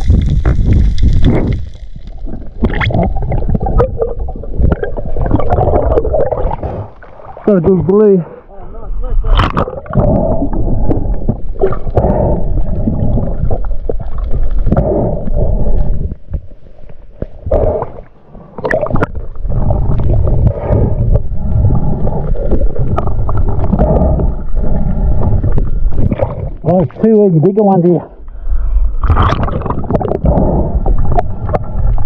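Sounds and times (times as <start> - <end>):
muffled water sloshing: 0.0 - 8.5, 9.2 - 27.5, 28.2 - 32.0.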